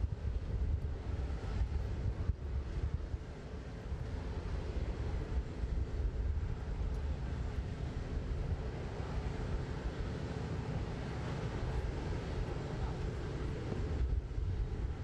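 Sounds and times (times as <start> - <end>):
aircraft and ground equipment rumble: 0.0 - 15.0
wind buffeting microphone: 0.0 - 15.0.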